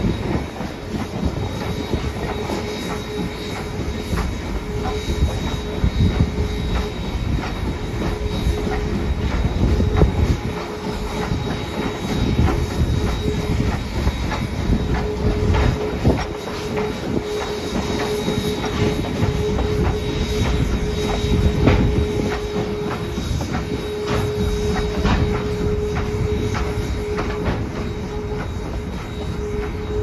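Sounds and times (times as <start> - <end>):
train wheels clattering over joints: 0.0 - 30.0
wheel flanges squealing: 0.0 - 30.0.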